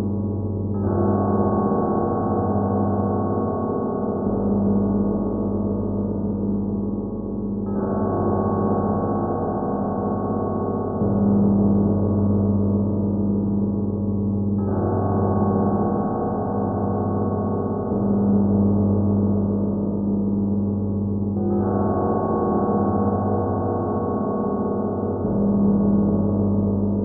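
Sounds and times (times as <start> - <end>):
deep church bell strokes: 0.0 - 27.0.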